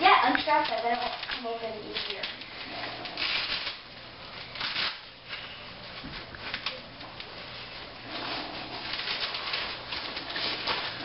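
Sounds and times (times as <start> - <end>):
gift wrap rustling and crinkling: 0.0 - 11.0.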